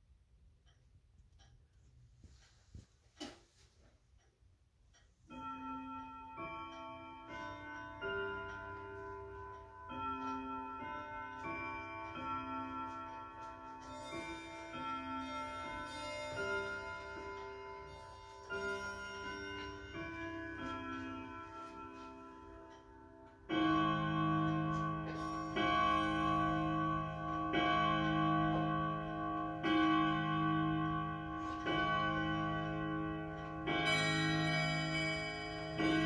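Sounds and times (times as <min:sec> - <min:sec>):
clock hour strikes: 0:04.0 - 0:36.0
clock chime rods ringing: 0:05.0 - 0:36.0.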